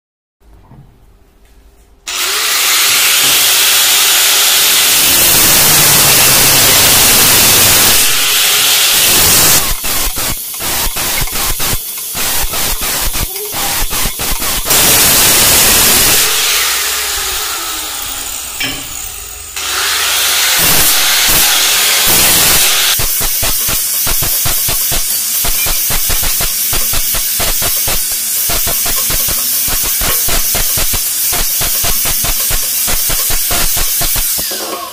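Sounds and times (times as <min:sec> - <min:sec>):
angle grinder winding down: 0:02.1 - 0:24.1, 0:28.8 - 0:34.9
angle grinder cutting metal: 0:02.1 - 0:34.9.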